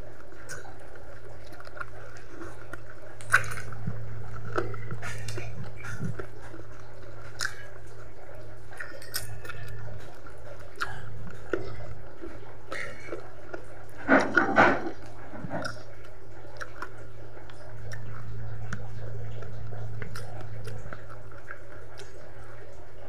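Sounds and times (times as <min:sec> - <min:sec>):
steady low hum: 0:00.0 - 0:23.0
person chewing and sucking food: 0:00.2 - 0:22.6.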